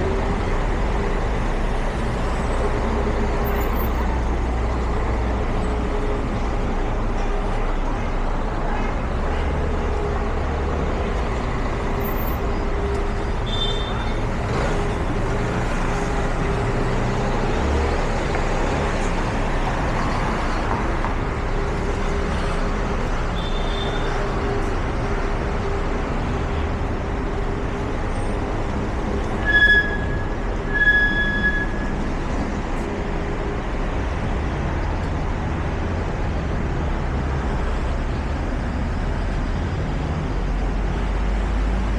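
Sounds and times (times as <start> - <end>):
passing traffic: 0.0 - 41.9.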